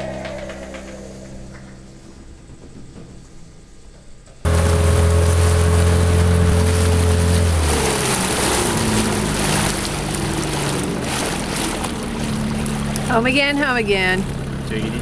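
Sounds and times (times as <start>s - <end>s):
outboard motor running: 0.0s - 15.0s
water noise: 0.0s - 15.0s
wind: 0.0s - 15.0s.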